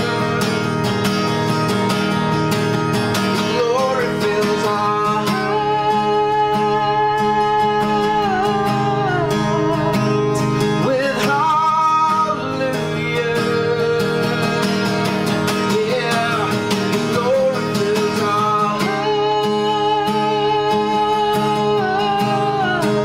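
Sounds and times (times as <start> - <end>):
acoustic guitar strumming: 0.0 - 23.0
man singing long notes: 3.4 - 23.0.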